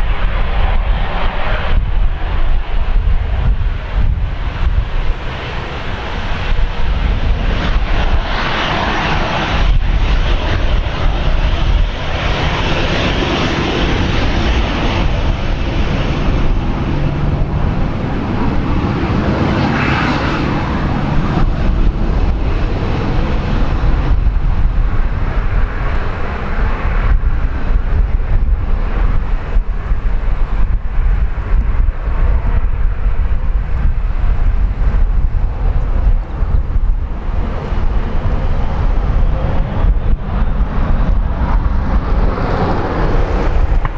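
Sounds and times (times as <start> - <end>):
jet airliner engines rumbling: 0.0 - 43.9
jet engine whine: 0.0 - 43.9.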